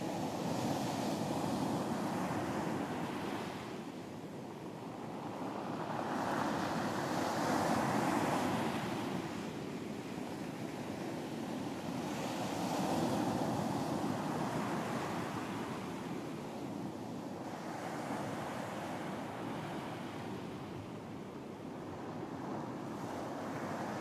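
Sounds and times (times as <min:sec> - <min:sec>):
ocean waves breaking on beach: 0:00.0 - 0:24.0.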